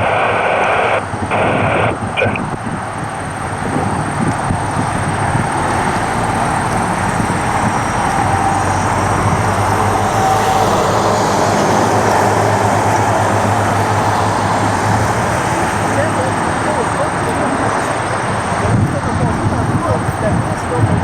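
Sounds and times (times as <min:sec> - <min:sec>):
faint engine whine: 0:00.0 - 0:21.0
jet aircraft passing overhead: 0:00.0 - 0:21.0.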